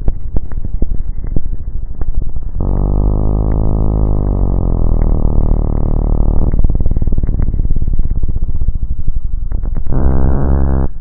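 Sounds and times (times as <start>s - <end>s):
low sustained synth note: 2.2s - 11.0s.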